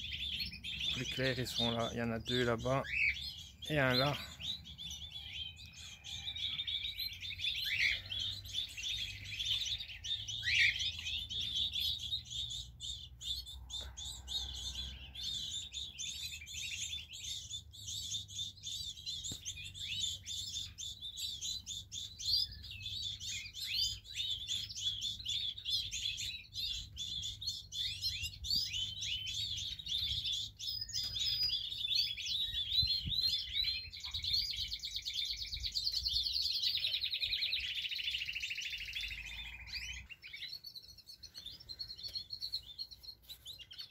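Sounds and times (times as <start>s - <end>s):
canaries chirping and twittering: 0.0s - 43.9s
whistled bird calls: 2.8s - 43.9s.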